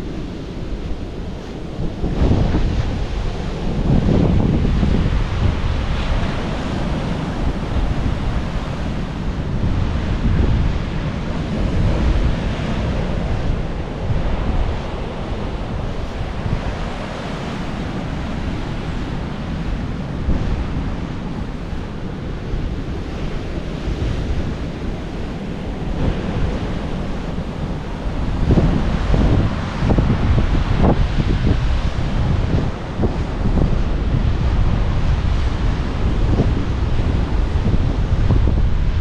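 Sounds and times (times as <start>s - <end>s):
surf washing against rocks: 0.0s - 39.0s
wind rumbling on microphone: 0.0s - 39.0s.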